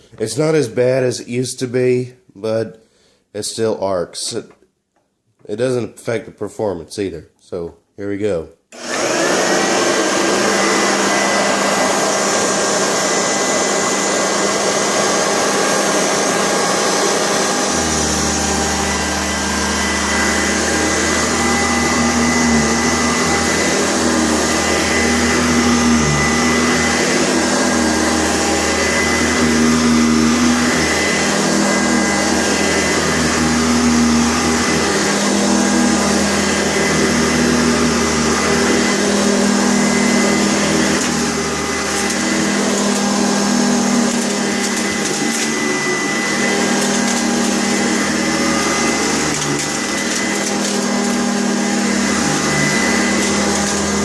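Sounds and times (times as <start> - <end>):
vacuum cleaner motor whine: 8.8 - 54.0.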